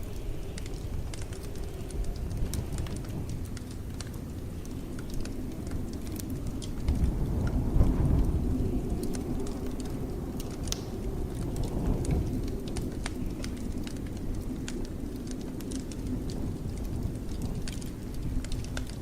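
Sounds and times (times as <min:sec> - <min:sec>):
blizzard wind rumbling: 0:00.0 - 0:19.0
fireplace crackling: 0:00.0 - 0:19.0.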